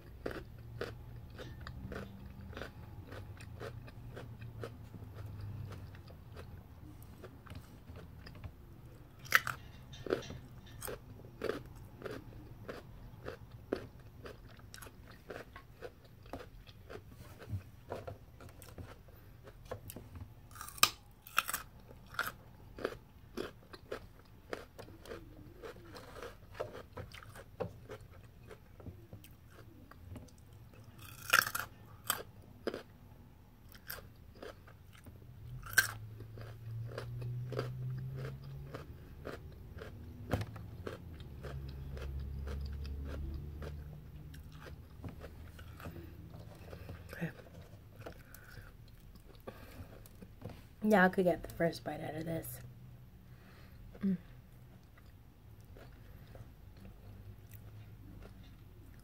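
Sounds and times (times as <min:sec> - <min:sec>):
chewing and crunching food: 0:00.0 - 0:50.9, 0:53.3 - 0:59.0.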